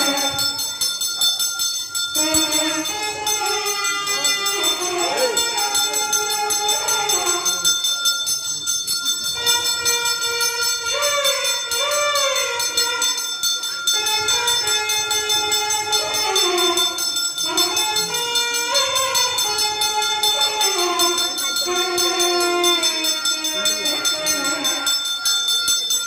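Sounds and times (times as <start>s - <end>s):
temple bell ringing rapidly: 0.0s - 26.0s.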